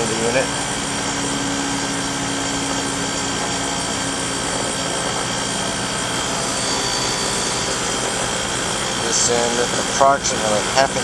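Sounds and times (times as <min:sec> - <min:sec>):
heat pump humming: 0:00.0 - 0:11.0.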